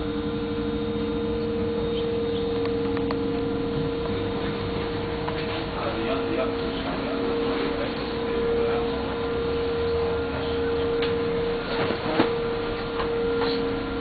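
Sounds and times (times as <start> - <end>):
constant humming tone: 0.0 - 14.0.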